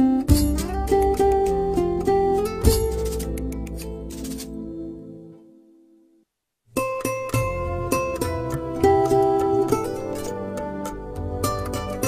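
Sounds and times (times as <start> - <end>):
plucked string music: 0.0 - 5.4, 6.7 - 12.0.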